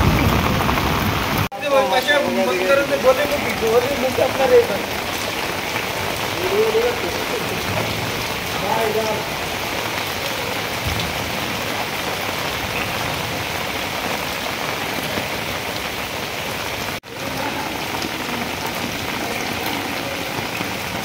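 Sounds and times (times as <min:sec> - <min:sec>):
rain falling on water: 0:00.0 - 0:21.0.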